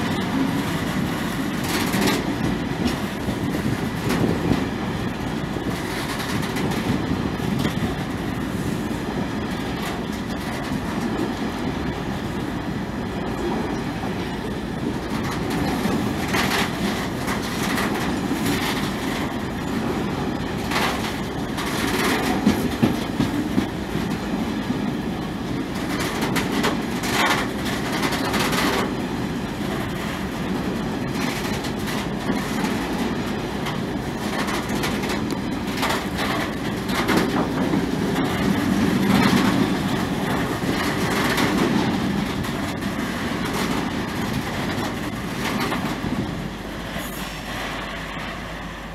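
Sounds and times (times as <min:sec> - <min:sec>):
wheels clacking over rail joints: 0:00.0 - 0:48.9
wheels rumbling on rail: 0:00.0 - 0:48.9.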